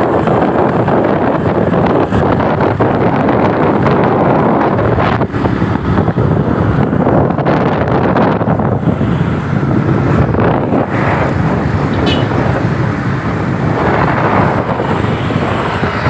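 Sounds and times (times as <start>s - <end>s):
motorcycle engine running: 0.0s - 16.0s
road noise: 0.0s - 16.0s
wind buffeting microphone: 0.0s - 16.0s.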